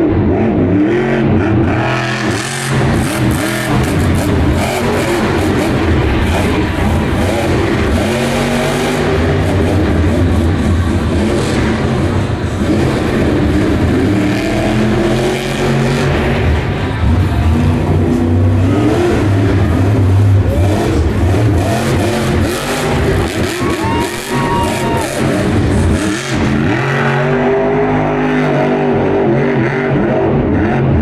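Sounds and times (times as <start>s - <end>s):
truck engine revving hard: 0.0s - 31.0s.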